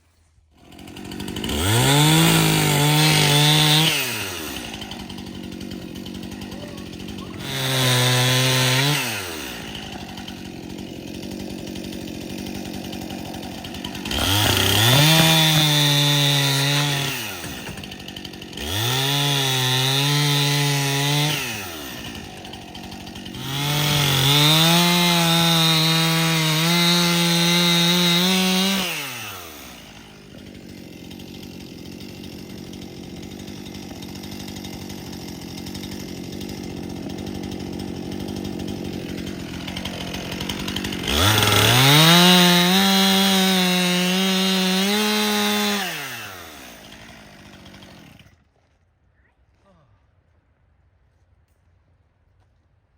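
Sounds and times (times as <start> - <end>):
chainsaw engine revving: 0.5 - 48.4.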